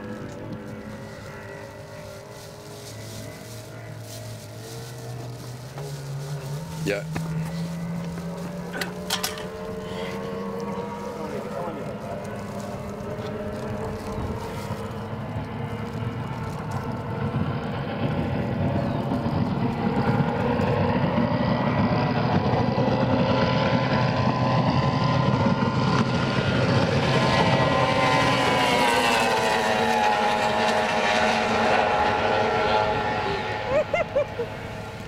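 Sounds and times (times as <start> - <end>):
powerboat engine at high revs: 0.0 - 35.0.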